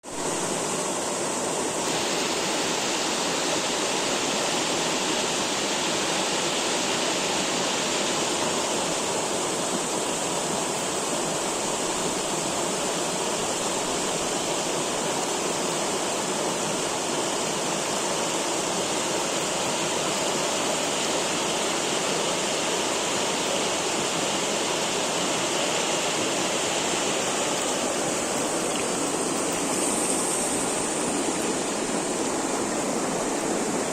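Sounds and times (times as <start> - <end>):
stream and waterfall rushing: 0.0 - 33.9.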